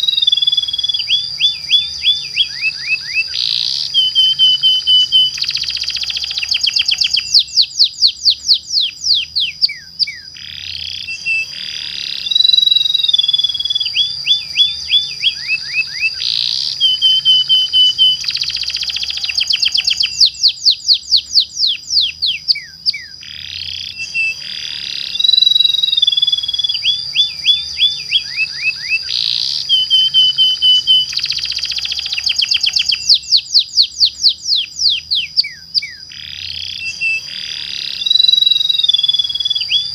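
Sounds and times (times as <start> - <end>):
steady high whistle: 0.0 - 10.2, 11.0 - 23.1, 23.7 - 36.0, 36.6 - 39.9
canary singing trills: 0.0 - 39.9.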